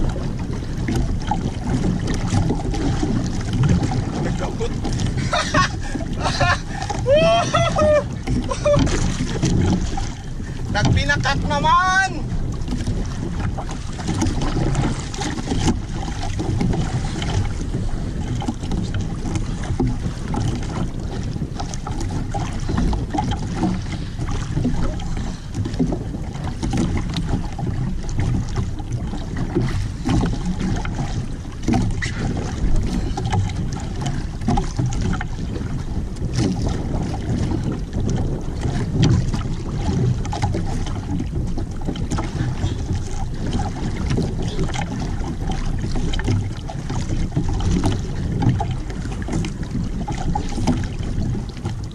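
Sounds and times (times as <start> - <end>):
water slapping boat hull: 0.0 - 51.9
wind buffeting microphone: 0.0 - 51.9.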